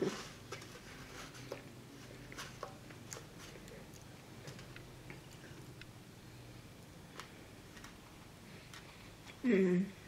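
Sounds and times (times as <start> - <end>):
quiet chewing: 0.5 - 9.4.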